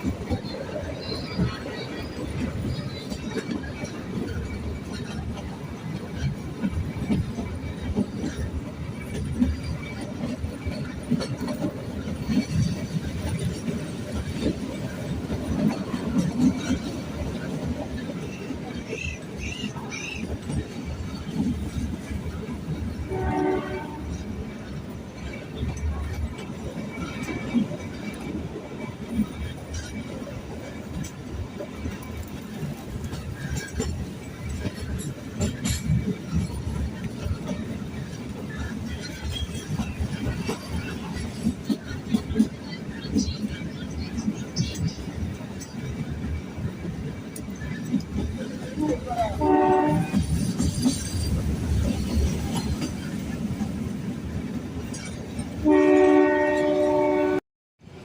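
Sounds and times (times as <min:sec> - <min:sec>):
wheels knocking and clattering: 0:00.0 - 0:57.0
train carriage rumbling: 0:00.0 - 0:58.0.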